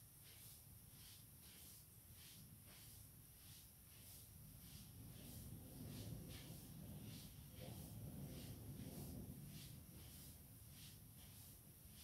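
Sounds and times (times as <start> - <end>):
low room hum: 0.0 - 12.0
faint soft swishes: 0.2 - 12.0.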